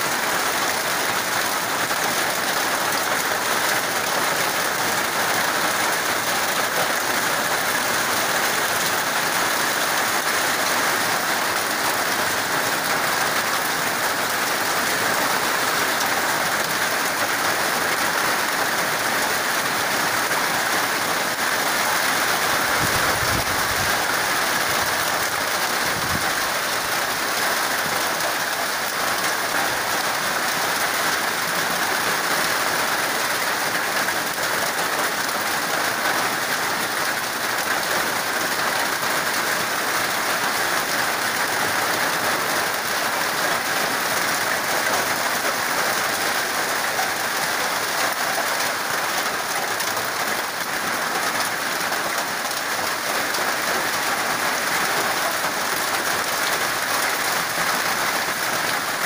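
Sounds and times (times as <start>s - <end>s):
rain on a metal sheet roof: 0.0s - 59.0s
rain on ground and foliage: 0.0s - 59.0s.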